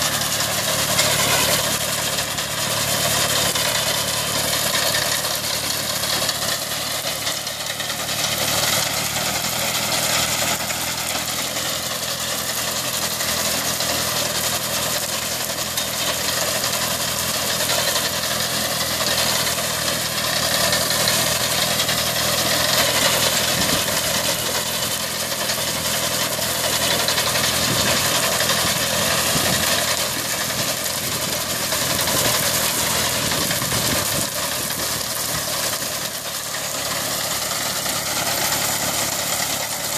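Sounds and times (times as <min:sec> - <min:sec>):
diesel engine running: 0:00.0 - 0:39.9
machinery rattle and whir: 0:00.0 - 0:39.9.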